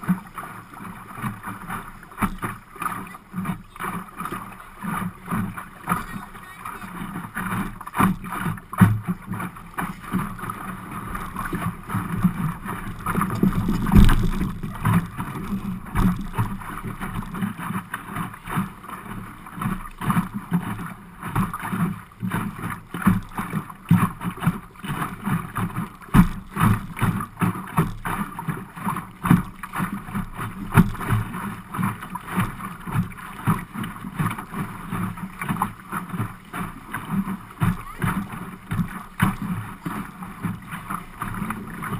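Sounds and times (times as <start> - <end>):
waves slapping against hull: 0.0 - 41.9.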